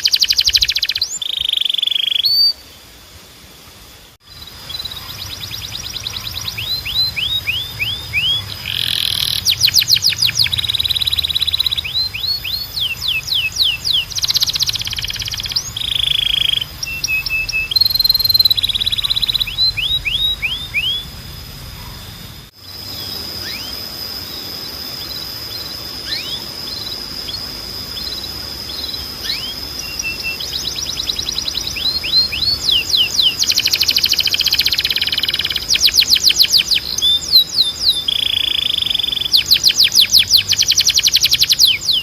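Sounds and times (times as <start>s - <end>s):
canary singing trills: 0.0s - 2.8s, 4.2s - 42.0s
falling chirps: 0.0s - 3.0s, 4.2s - 42.0s
steady high tone: 0.0s - 42.0s.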